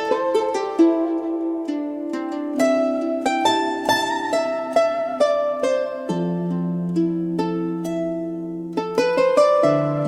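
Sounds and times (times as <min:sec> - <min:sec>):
plucked zither melody: 0:00.0 - 0:10.0.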